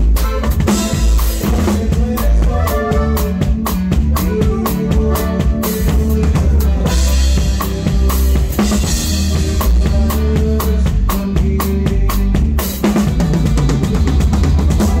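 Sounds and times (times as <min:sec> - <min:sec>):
drum kit snare and rimshots: 0:00.0 - 0:15.0
steady bass line: 0:00.0 - 0:15.0.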